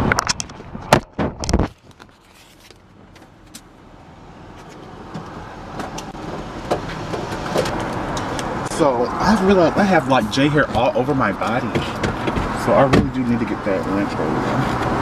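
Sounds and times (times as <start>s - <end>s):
outdoor traffic hum: 0.0s - 15.0s.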